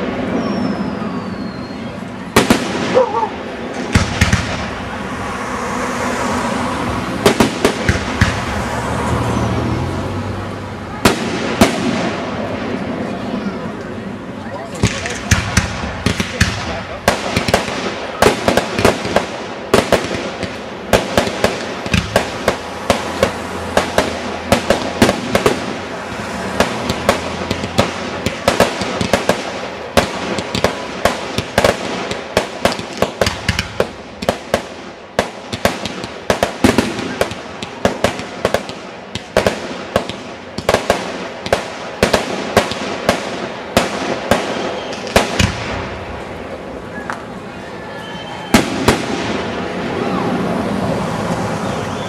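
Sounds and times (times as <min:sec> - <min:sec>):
fireworks bursting: 0:00.0 - 0:52.0.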